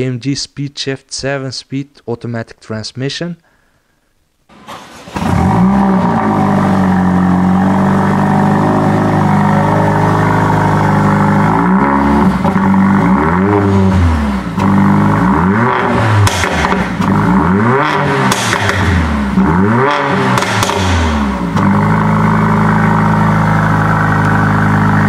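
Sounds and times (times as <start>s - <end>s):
car engine revving: 4.5s - 25.0s
car engine starting and idling: 4.5s - 25.0s.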